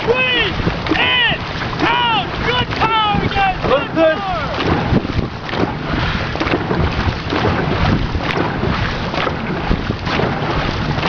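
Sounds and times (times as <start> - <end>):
paddles splashing in water: 0.0 - 11.0
rushing water: 0.0 - 11.0
wind buffeting microphone: 0.0 - 11.0.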